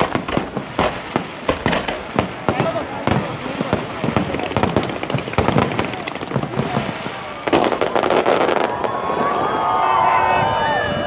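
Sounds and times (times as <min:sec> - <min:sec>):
fireworks crackling: 0:00.0 - 0:10.2
fireworks bangs and cracks: 0:00.0 - 0:10.7.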